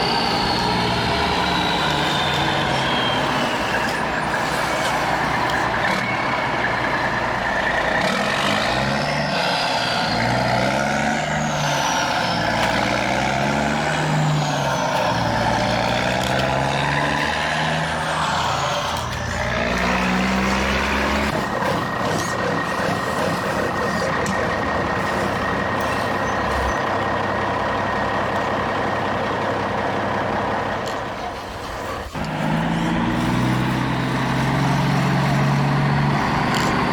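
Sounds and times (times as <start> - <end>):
model truck diesel engine revving: 0.0 - 36.9.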